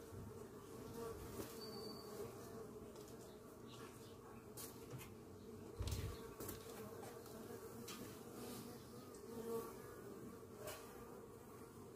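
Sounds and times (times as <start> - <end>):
bees buzzing: 0.0 - 11.9.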